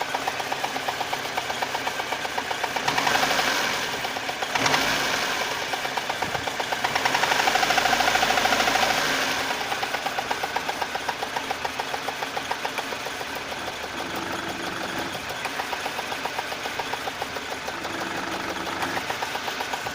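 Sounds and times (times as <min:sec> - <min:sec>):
car engine idling: 0:00.0 - 0:19.9
rhythmic ticking clatter: 0:00.0 - 0:19.9.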